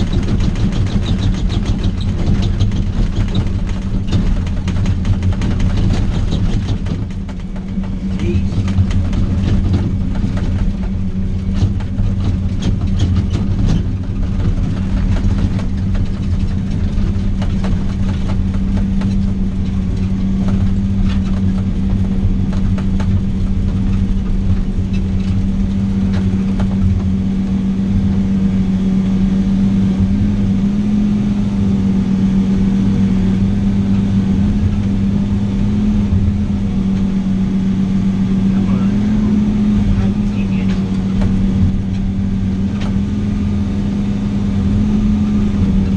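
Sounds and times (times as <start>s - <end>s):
rattling knocks and clicks: 0.0s - 27.8s, 32.8s - 45.9s
vehicle engine droning: 0.0s - 45.9s.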